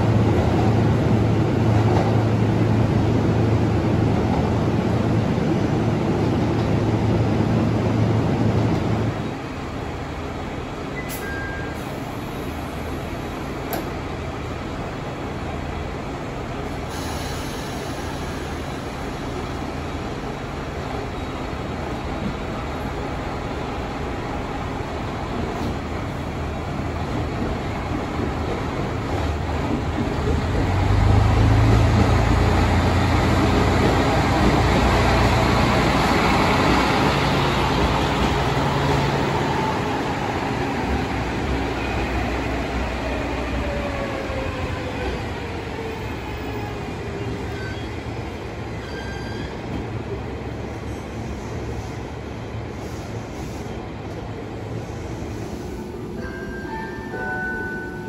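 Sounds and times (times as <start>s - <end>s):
diesel railcar engine humming: 0.0s - 58.0s.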